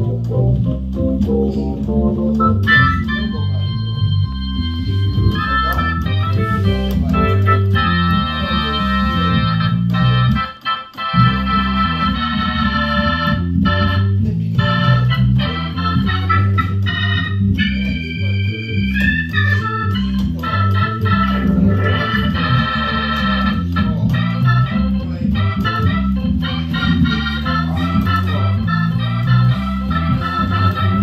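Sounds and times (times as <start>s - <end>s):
low bass line: 0.0s - 31.0s
organ playing blues chords: 0.0s - 31.0s.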